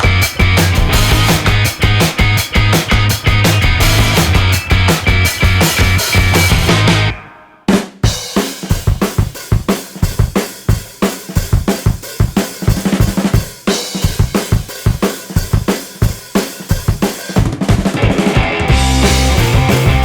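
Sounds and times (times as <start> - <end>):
rock music with fast drum beat: 0.0 - 20.0.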